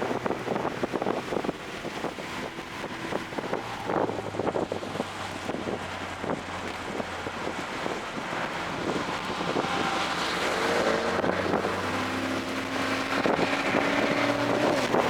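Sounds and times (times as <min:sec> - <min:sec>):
car engine accelerating: 0:00.0 - 0:15.0
wind and road noise: 0:00.0 - 0:15.0.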